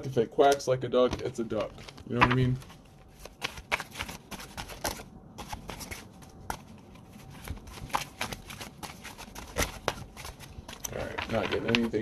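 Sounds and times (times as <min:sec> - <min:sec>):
cards being shuffled: 0:01.0 - 0:12.0.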